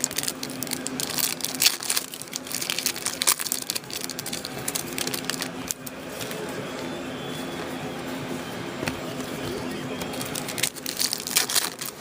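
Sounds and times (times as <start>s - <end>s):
card packs crinkling: 0.0s - 12.0s.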